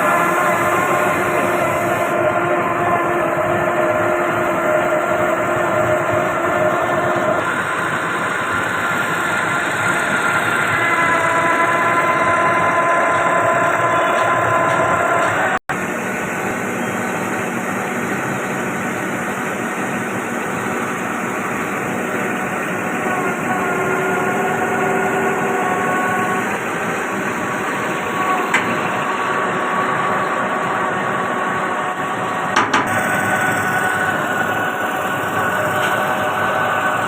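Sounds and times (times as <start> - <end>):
concrete pump engine and hydraulic drone: 0.0 - 37.0.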